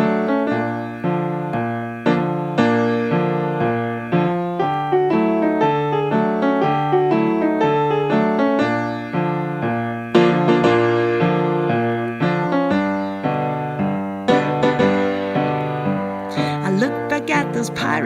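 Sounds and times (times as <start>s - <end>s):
keyboard chords: 0.0s - 18.0s.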